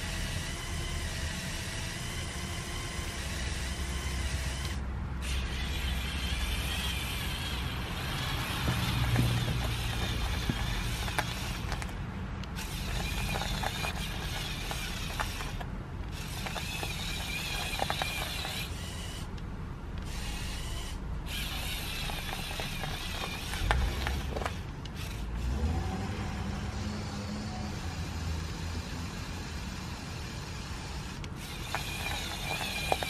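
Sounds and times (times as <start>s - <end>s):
toy motors and gears whirring: 0.0s - 33.0s.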